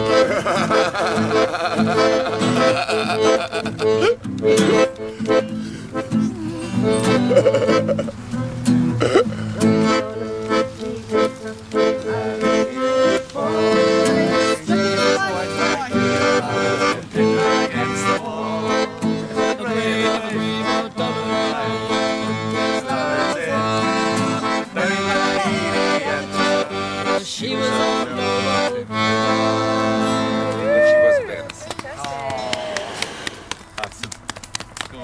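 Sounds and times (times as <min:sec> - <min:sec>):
accordion playing a tune: 0:00.0 - 0:34.9.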